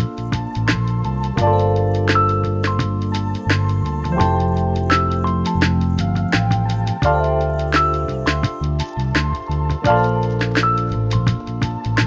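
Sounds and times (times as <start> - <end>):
background music melody: 0.0 - 12.0.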